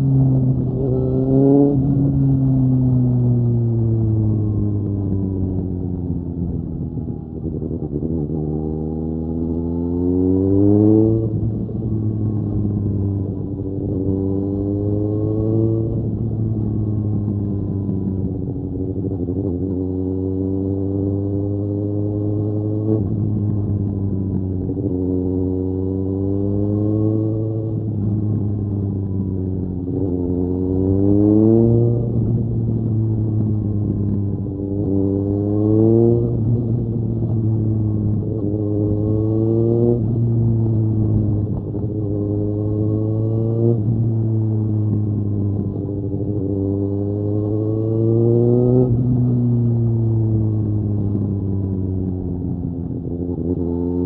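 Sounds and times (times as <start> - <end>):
motorcycle engine revving: 0.0 - 5.6, 6.6 - 54.0.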